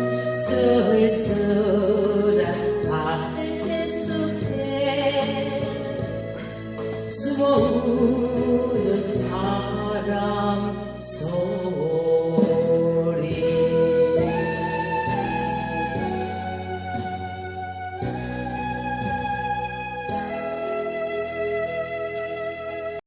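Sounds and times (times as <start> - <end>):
pop ballad singing over backing track: 0.0 - 23.0.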